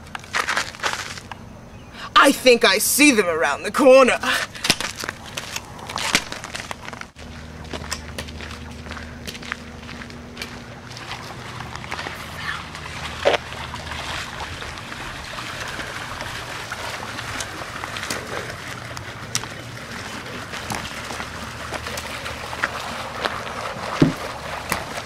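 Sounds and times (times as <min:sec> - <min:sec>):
stream trickling: 0:02.2 - 0:25.0.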